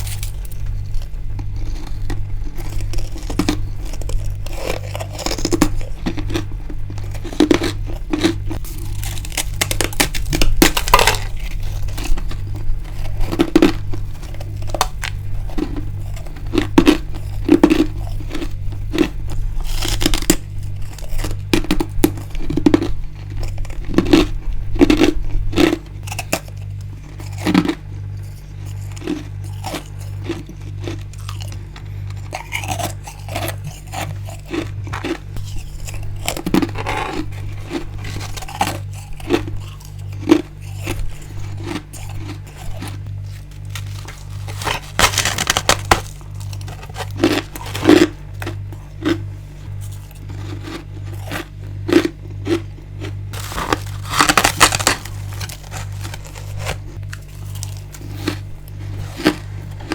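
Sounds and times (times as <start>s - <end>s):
crunching and chewing frost: 0.0s - 59.9s
steady low pulsing hum: 0.0s - 59.9s.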